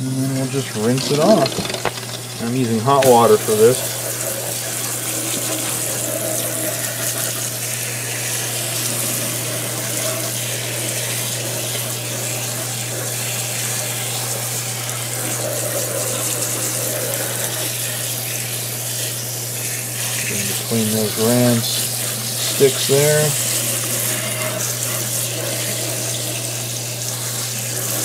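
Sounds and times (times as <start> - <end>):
water spraying from hose nozzle: 0.0 - 28.0.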